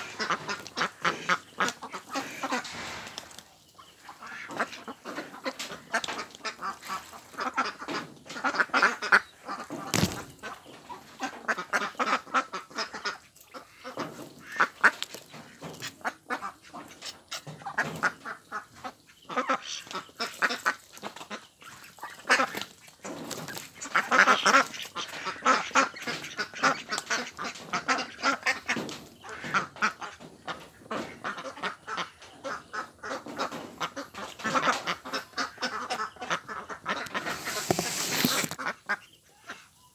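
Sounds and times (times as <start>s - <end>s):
ducks quacking: 0.0s - 39.9s.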